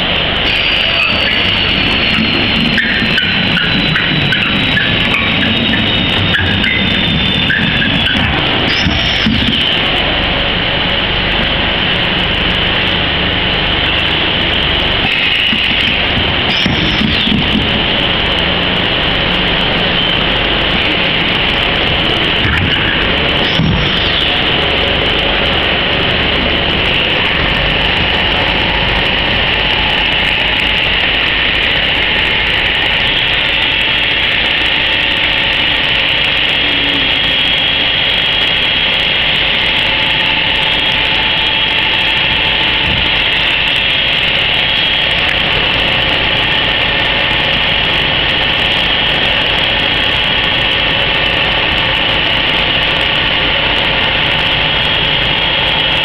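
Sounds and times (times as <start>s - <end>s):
vacuum pump running with whine: 0.0s - 56.0s.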